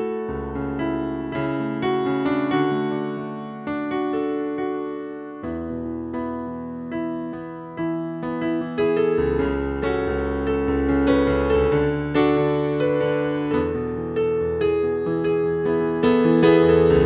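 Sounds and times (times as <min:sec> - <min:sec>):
keyboard melody: 0:00.0 - 0:17.0.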